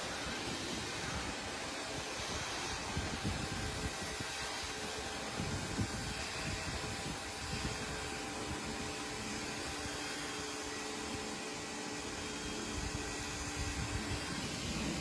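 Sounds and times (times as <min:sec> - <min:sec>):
machine hum: 0:00.0 - 0:15.0
pressure washer water hiss: 0:00.0 - 0:15.0.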